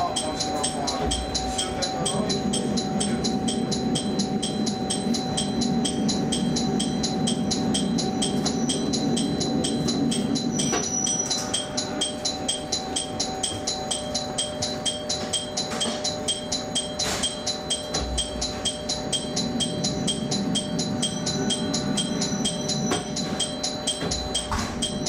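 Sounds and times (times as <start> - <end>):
railcar rumble: 0.0 - 25.0
rapid high ticking: 0.0 - 25.0
steady tone: 0.0 - 25.0.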